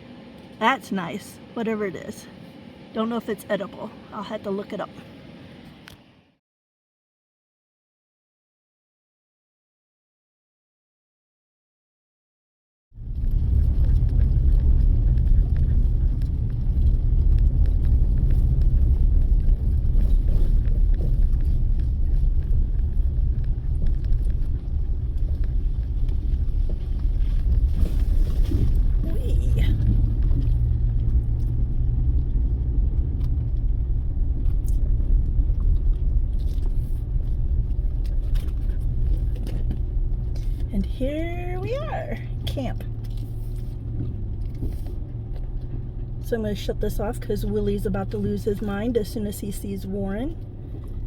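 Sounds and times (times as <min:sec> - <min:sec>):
vehicle engine and road rumble: 0:00.0 - 0:06.4, 0:13.0 - 0:51.0.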